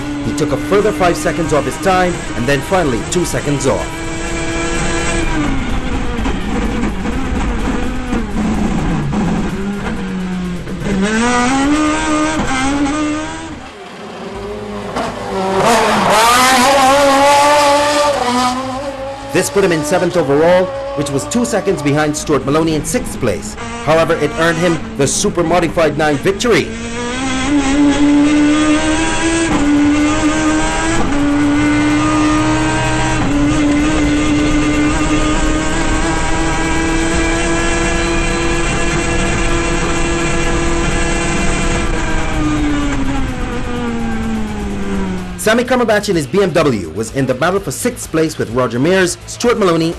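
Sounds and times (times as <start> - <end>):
race car engine revving through gears: 0.0 - 49.9.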